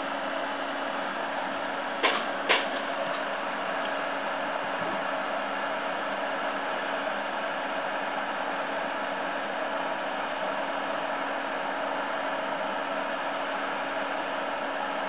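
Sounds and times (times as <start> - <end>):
computer fan air rush: 0.0 - 15.0.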